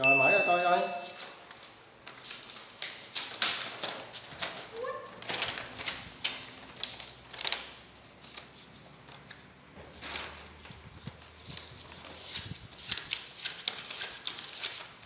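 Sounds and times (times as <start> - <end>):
paper pages rustling and flipping: 1.0 - 15.0.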